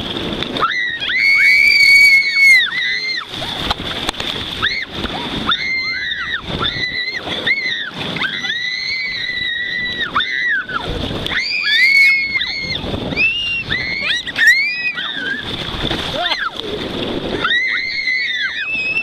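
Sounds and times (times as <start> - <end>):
water rushing and splashing: 0.0 - 19.0.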